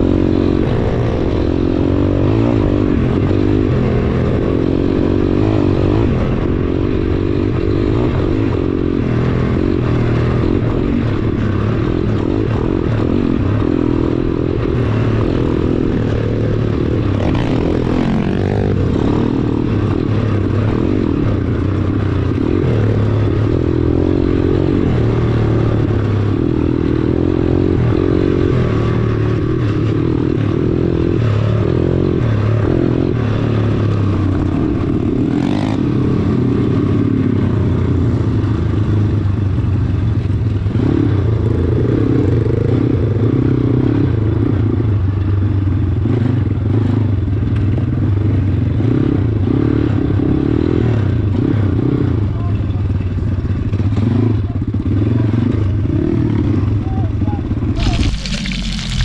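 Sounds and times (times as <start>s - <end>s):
pit bike engines revving: 0.0s - 59.0s.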